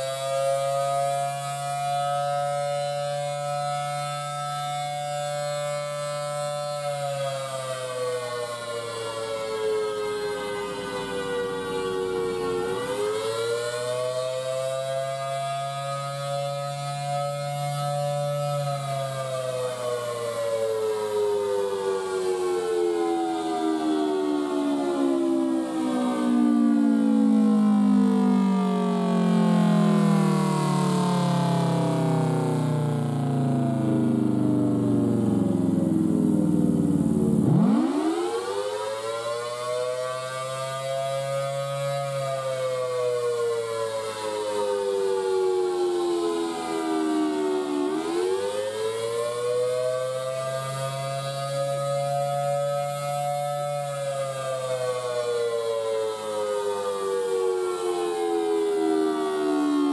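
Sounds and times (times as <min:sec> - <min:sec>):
siren wailing: 0:00.0 - 0:59.9.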